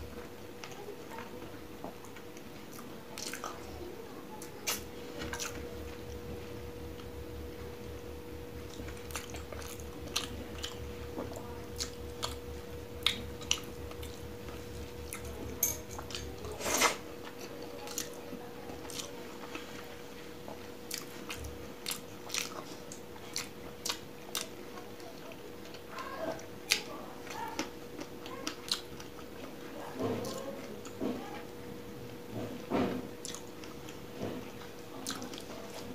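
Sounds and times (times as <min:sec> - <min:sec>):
close-miked chewing: 0:00.0 - 0:35.9
faint steady hum: 0:00.0 - 0:35.9.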